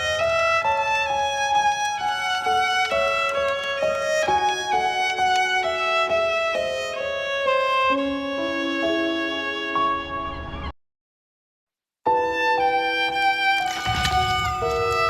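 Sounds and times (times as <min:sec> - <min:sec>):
violin melody: 0:00.0 - 0:10.7, 0:12.1 - 0:15.0.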